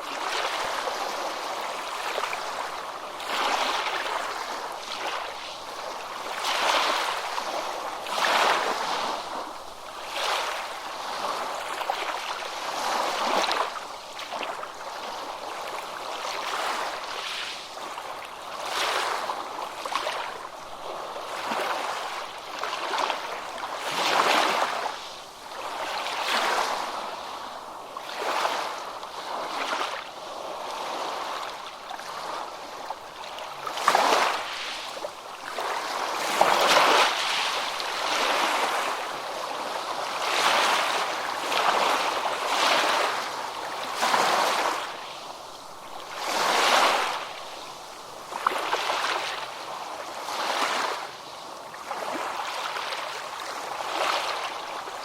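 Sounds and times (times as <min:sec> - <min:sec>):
ocean waves on a beach: 0:00.0 - 0:55.0.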